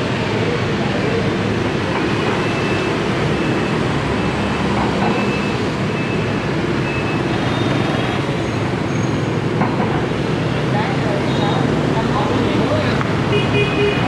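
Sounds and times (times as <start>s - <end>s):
motorbikes passing: 0.0s - 14.0s
street traffic noise: 0.0s - 14.0s.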